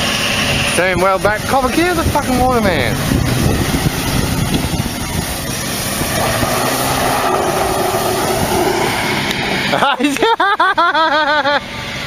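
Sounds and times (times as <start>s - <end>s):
droning tone: 0.0s - 9.8s
vehicle engine rumbling: 0.0s - 12.0s.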